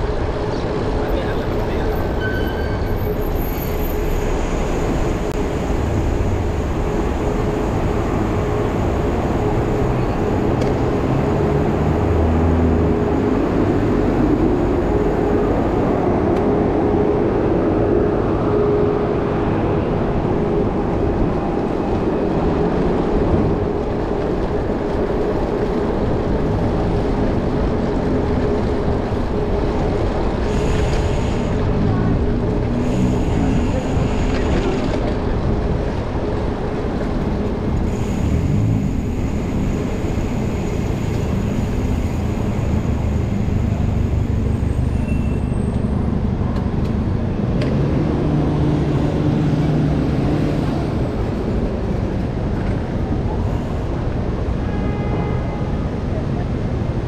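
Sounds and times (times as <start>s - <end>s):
rumbling street traffic: 0.0s - 57.0s.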